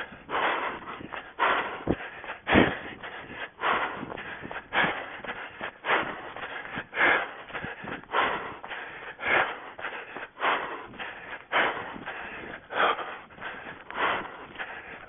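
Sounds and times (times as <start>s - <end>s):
heavy rasping breathing: 0.0s - 15.0s.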